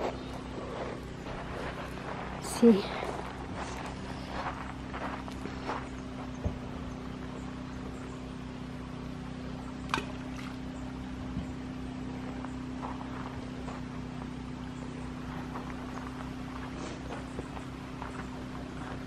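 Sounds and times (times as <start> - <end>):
mechanical motor hum: 0.0 - 19.0.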